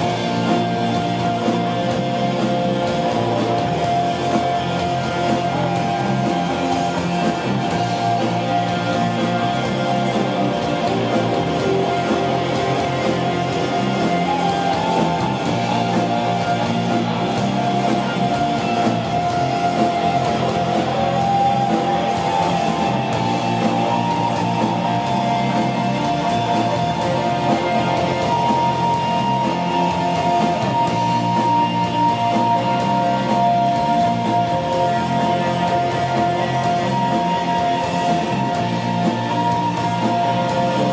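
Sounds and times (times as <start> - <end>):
live rock band playing: 0.0 - 40.9
long high guitar notes: 0.0 - 40.9.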